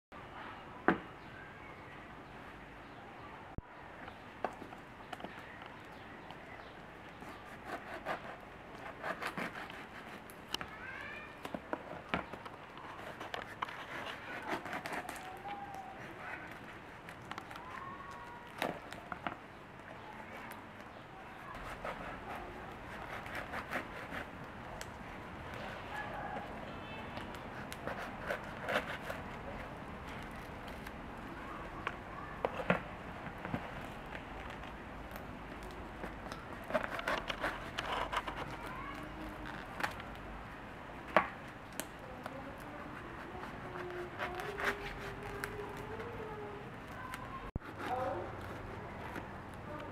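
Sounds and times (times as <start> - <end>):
bread crust crackling: 4.5 - 49.9.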